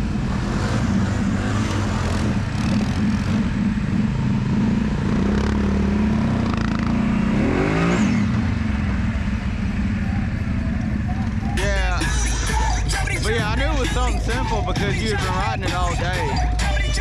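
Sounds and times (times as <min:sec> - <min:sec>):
atv engines running: 0:00.0 - 0:17.0.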